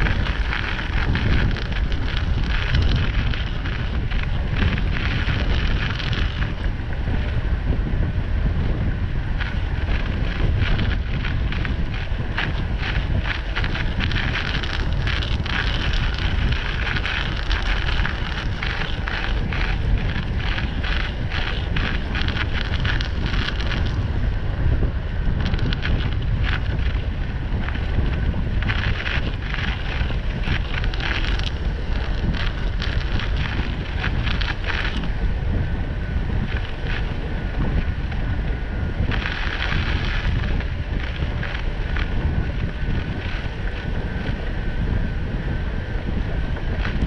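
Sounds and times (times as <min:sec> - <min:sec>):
tyres rolling over snow: 0:00.0 - 0:47.0
wind rumble on microphone: 0:00.0 - 0:47.0.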